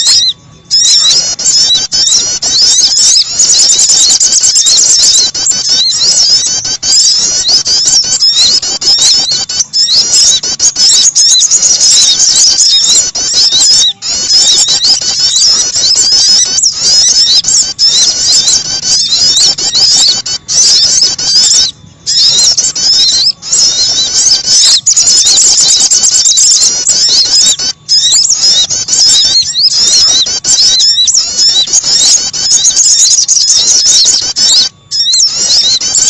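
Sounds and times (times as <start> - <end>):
songbirds chirping rapidly: 0.0 - 36.0.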